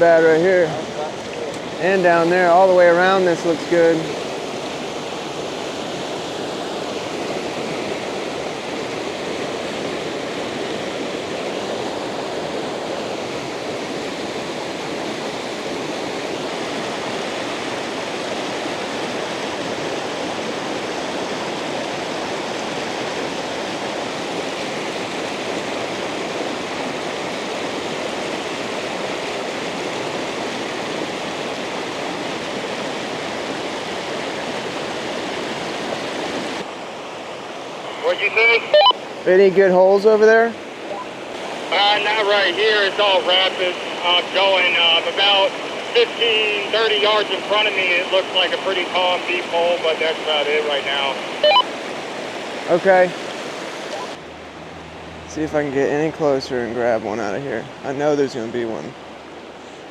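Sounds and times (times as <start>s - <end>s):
stream rushing over rapids: 0.0s - 55.8s.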